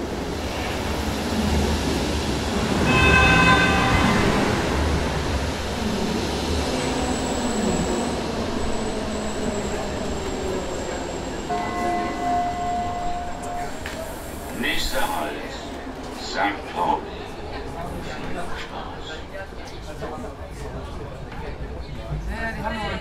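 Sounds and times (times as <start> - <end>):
train rumbling past: 0.0 - 22.9.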